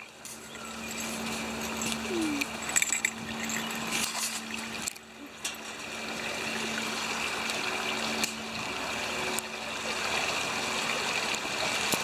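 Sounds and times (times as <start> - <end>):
water rushing down a channel: 0.0 - 12.0.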